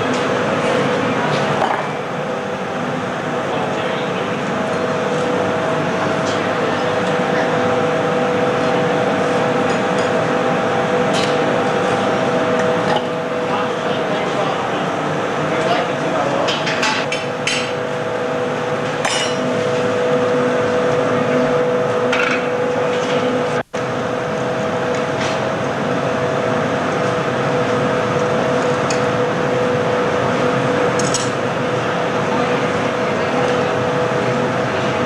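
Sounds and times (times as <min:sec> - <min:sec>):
furnace burners and blowers roaring: 0:00.0 - 0:35.0
steady hum: 0:00.0 - 0:35.0.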